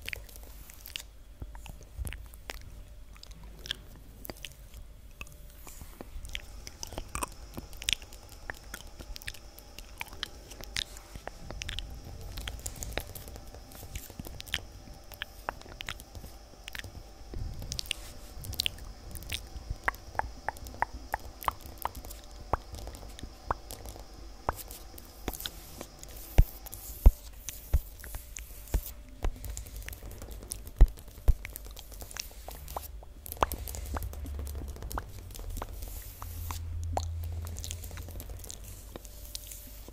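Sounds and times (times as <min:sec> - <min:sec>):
wet mouth sounds: 0:00.0 - 0:39.9.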